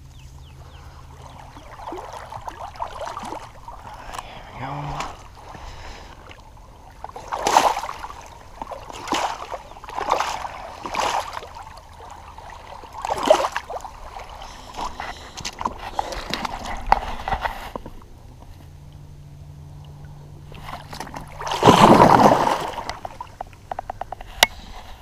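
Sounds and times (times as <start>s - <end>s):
water splashing: 0.0s - 19.0s, 19.6s - 25.0s.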